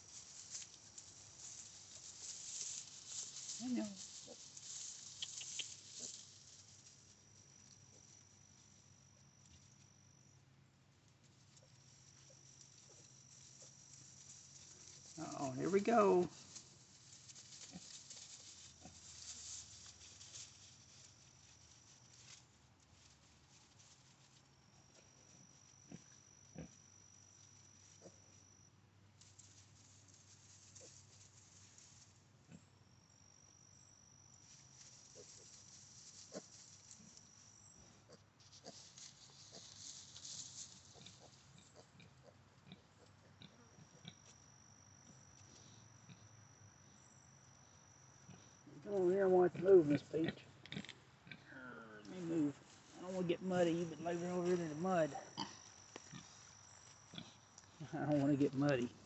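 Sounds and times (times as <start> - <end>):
piglets rooting in straw: 0.0 - 59.0.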